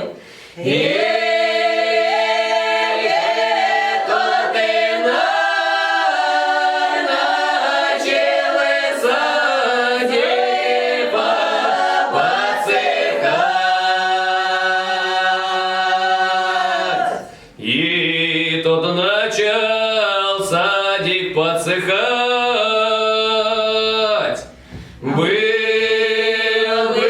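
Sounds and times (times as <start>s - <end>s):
choir singing a cappella: 0.0s - 21.1s, 25.0s - 27.0s.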